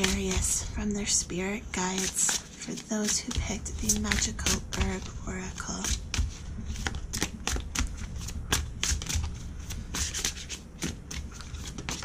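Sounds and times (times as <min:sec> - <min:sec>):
cards shuffled by hand: 0:00.0 - 0:12.0.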